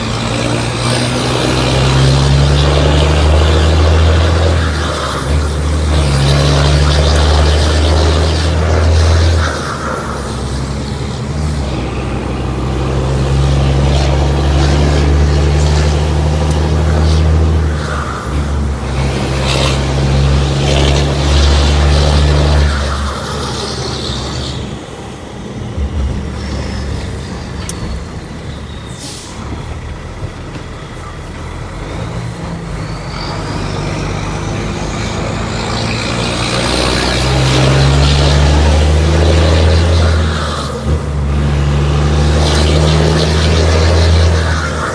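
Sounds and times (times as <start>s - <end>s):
diesel truck engine droning: 0.0s - 44.9s.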